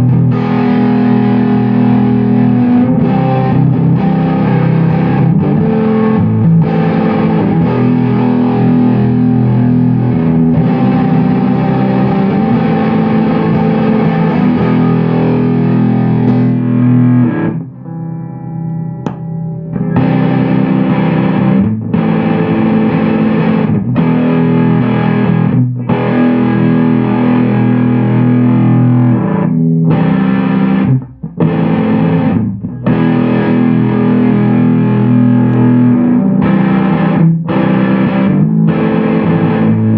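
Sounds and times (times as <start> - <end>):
distorted electric guitar chords: 0.0 - 39.9.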